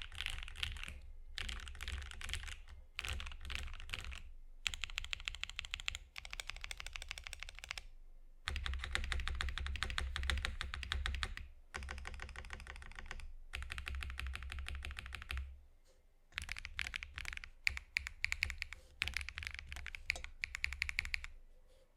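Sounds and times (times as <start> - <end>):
mechanical keyboard typing: 0.0 - 7.8, 8.5 - 15.5, 16.4 - 21.4.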